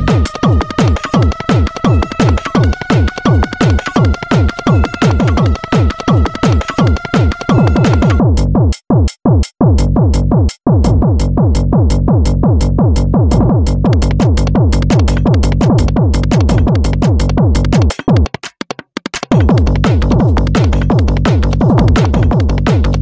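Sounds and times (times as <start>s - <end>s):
electronic kick drum: 0.0s - 18.4s, 19.3s - 23.0s.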